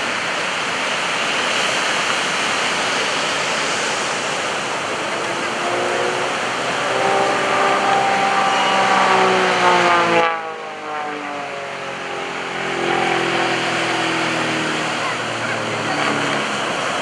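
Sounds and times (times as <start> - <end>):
biplane engine and propeller: 0.0 - 17.0.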